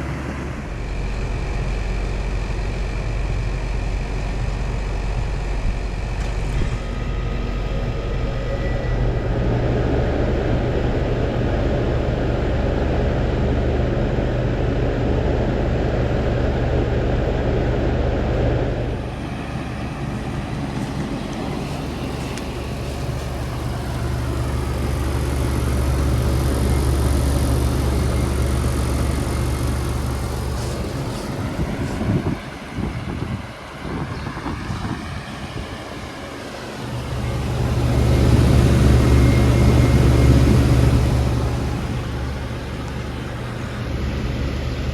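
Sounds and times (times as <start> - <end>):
compressor hum: 0.0 - 44.9
fan air rushing: 0.0 - 44.9.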